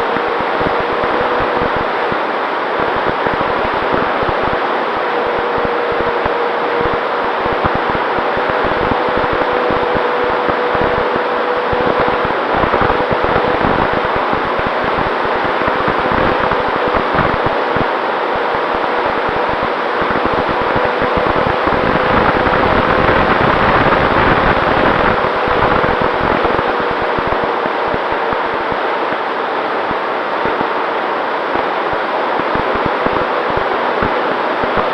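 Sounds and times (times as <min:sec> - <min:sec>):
electric motor and propeller whine: 0:00.0 - 0:34.9
wind rushing over camera: 0:00.0 - 0:34.9.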